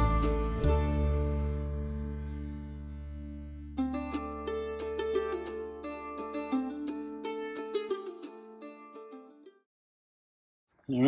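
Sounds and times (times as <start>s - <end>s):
plucked string music: 0.0s - 9.6s.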